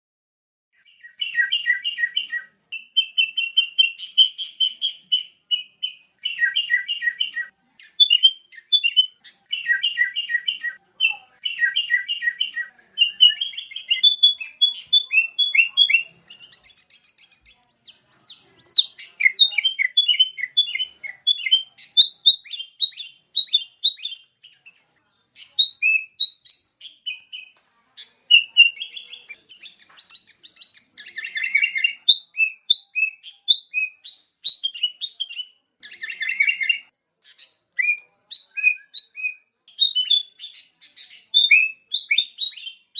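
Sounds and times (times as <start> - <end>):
bird singing whistled notes: 0.8 - 24.8, 25.4 - 27.6, 28.3 - 42.9.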